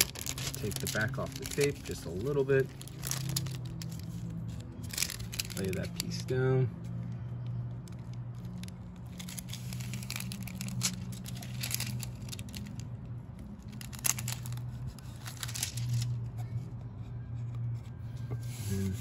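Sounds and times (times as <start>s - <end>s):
tape crackling and tearing: 0.0s - 16.4s.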